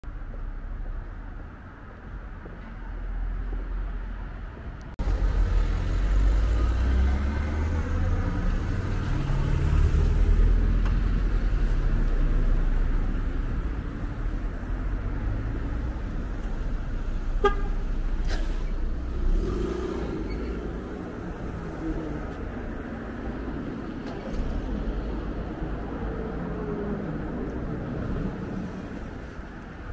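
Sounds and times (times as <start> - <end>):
car engines passing: 0.1 - 29.9.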